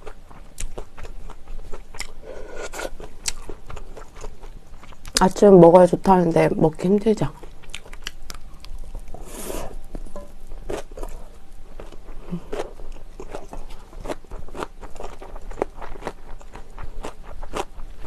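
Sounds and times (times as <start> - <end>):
chewing with crisp crunches: 0.0 - 5.3, 7.3 - 18.0.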